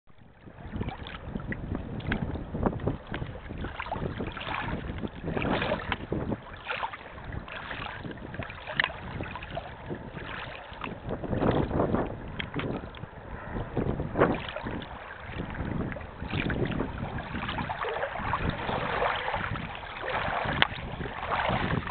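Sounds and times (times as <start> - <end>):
wind buffeting microphone: 0.1 - 21.9
water splashing against shore: 0.4 - 21.9.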